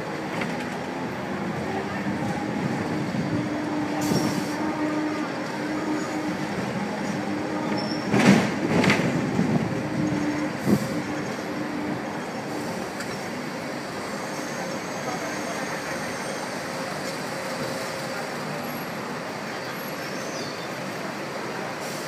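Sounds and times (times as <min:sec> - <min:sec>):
tram wheels rumbling on track: 0:00.0 - 0:22.0.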